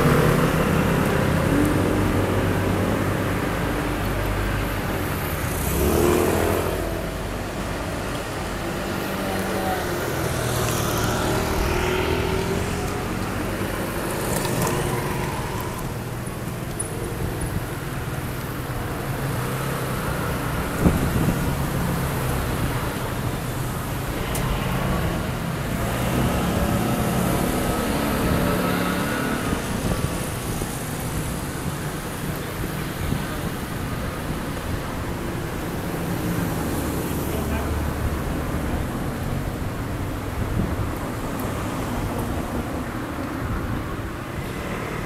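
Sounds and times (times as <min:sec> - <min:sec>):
scooters and cars passing: 0:00.0 - 0:45.0.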